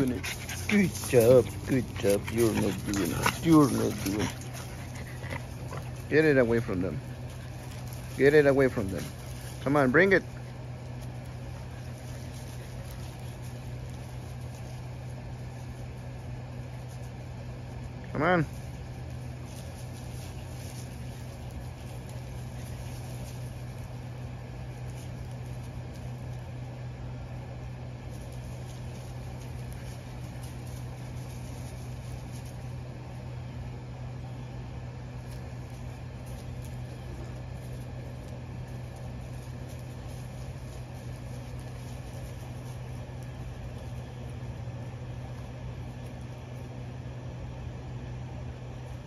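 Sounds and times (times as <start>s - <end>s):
low mechanical motor hum: 0.0s - 49.0s.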